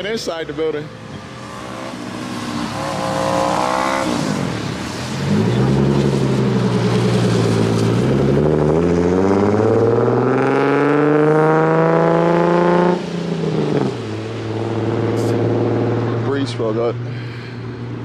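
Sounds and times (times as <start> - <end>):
car engine revving: 0.3 - 17.1.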